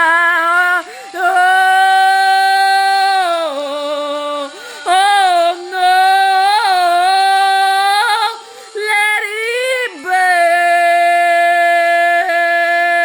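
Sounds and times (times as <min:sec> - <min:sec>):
woman singing: 0:00.0 - 0:13.0.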